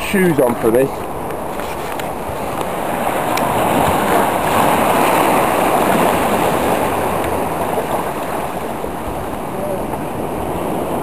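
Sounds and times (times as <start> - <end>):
waves breaking on rocks: 0.0 - 11.0.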